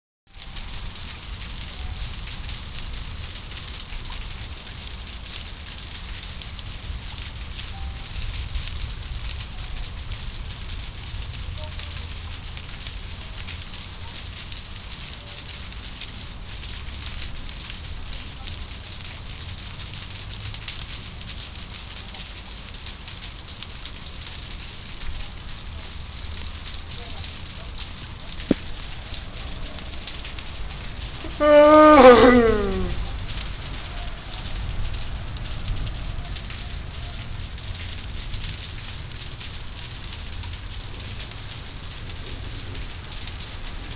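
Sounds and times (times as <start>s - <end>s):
rain falling: 0.3s - 43.9s.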